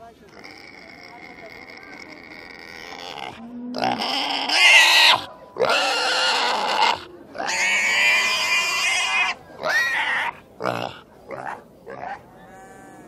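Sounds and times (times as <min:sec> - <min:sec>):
pig screaming and squealing: 0:00.4 - 0:13.0.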